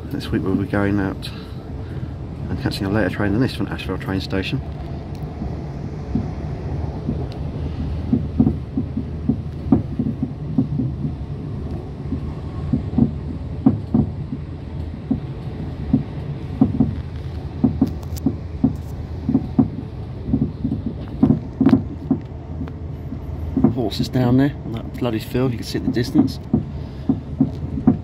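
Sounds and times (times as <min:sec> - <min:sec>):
train rumbling inside carriage: 0:00.0 - 0:28.0
wheels knocking on track: 0:05.3 - 0:28.0.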